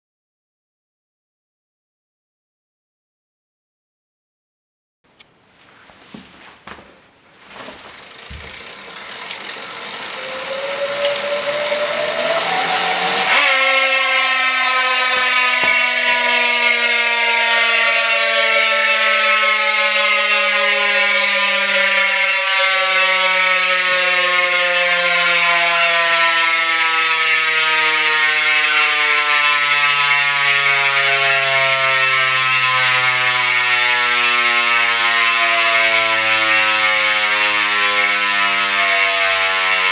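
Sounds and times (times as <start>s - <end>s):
bicycle wheel whirring: 6.2s - 39.9s
freehub ratchet buzz: 7.6s - 39.9s.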